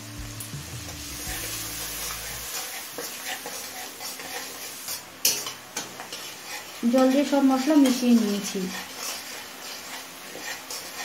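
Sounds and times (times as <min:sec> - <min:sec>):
spice paste sizzling in oil: 0:00.0 - 0:11.0
spatula scraping a pan: 0:00.8 - 0:11.0.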